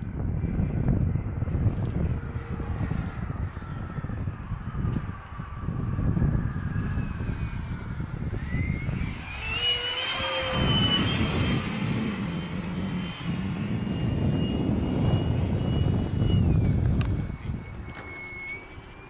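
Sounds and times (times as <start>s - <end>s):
model jet whine: 0.0s - 19.0s.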